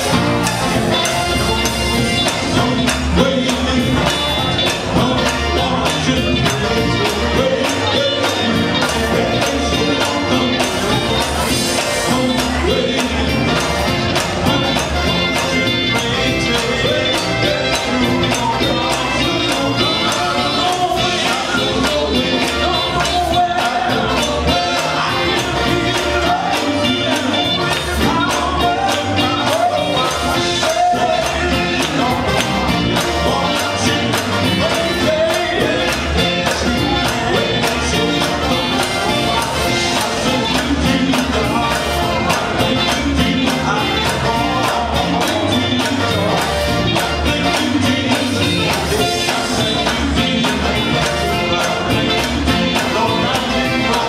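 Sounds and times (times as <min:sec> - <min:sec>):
bass guitar: 0:00.0 - 0:54.0
drum kit beat: 0:00.0 - 0:54.0
electric guitars: 0:00.0 - 0:54.0
men singing: 0:00.0 - 0:54.0.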